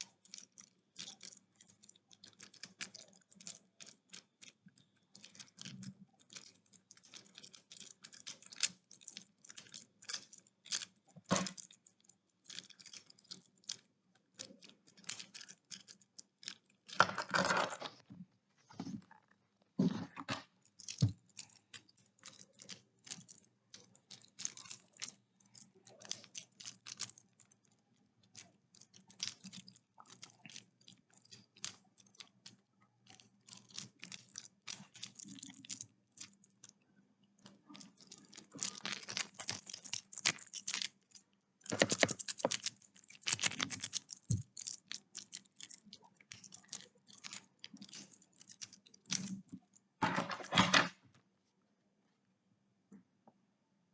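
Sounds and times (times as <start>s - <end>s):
fidget toy clicking and clacking: 0.0s - 17.5s, 20.6s - 36.8s, 37.4s - 49.6s.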